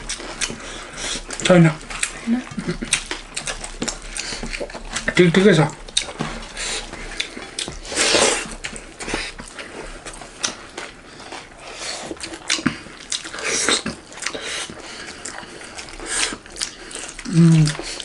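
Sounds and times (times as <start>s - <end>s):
chewing and lip-smacking: 0.0s - 18.0s.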